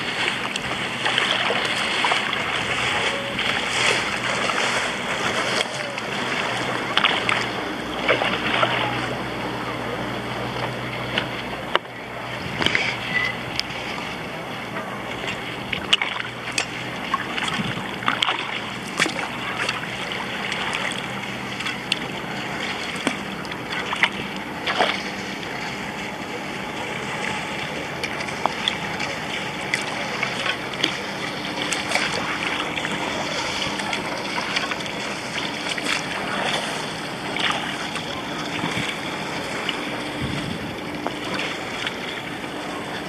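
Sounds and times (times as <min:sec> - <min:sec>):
paddle splashes and drips: 0:00.0 - 0:43.0
water lapping at hull: 0:00.0 - 0:43.0.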